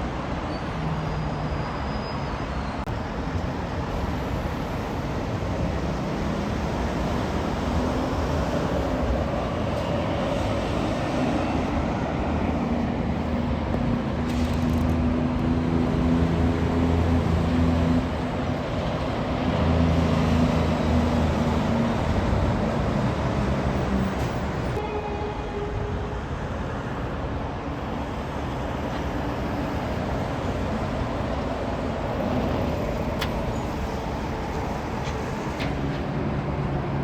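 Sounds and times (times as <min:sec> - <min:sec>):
tyre and traffic noise: 0:00.0 - 0:37.0.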